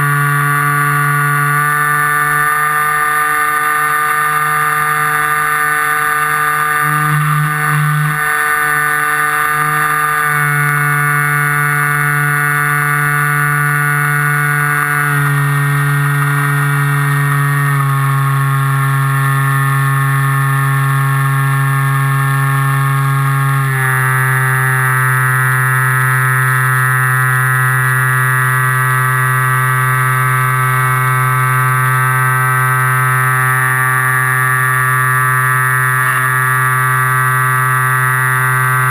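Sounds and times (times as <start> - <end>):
model aircraft motor droning: 0.0 - 38.9.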